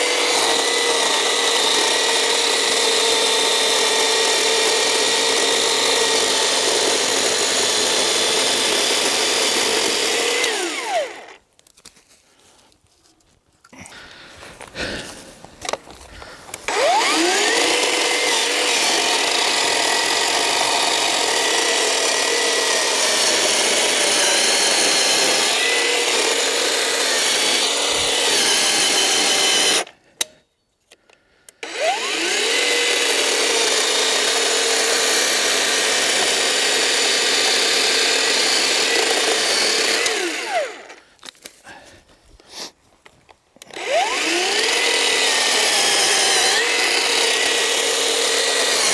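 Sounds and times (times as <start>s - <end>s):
electric chainsaw cutting log: 0.0s - 11.4s, 15.7s - 30.0s, 31.6s - 41.1s, 43.6s - 48.9s.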